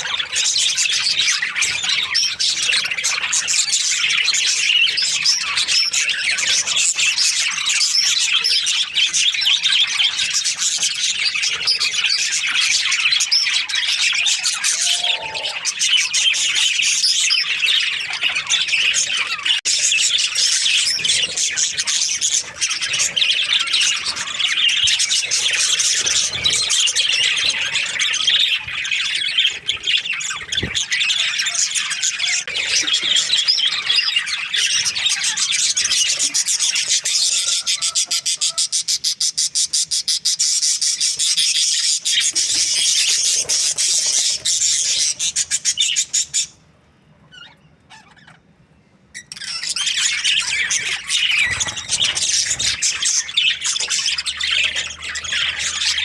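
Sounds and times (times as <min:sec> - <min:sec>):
budgerigars chattering and chirping: 0:00.0 - 0:46.6, 0:47.3 - 0:56.0.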